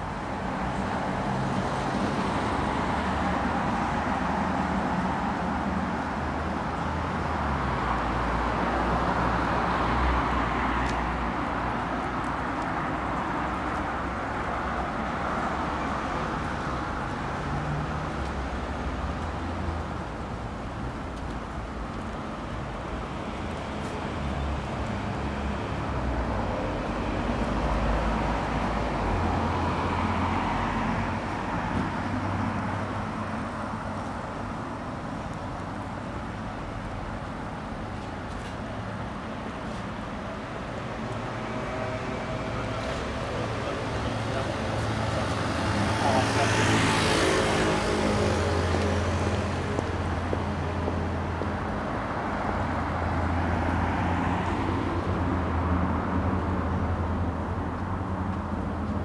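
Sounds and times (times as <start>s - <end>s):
cars passing on road: 0.0s - 59.0s.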